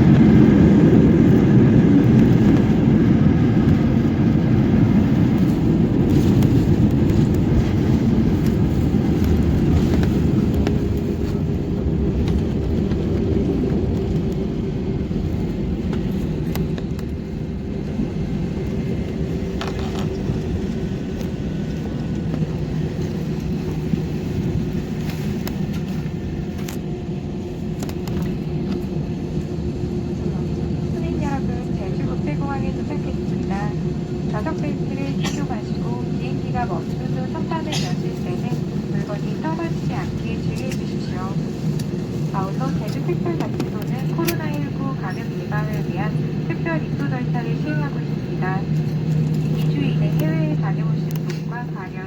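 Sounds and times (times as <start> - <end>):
airliner cabin rumble: 0.0 - 52.0
engine hum: 0.0 - 52.0.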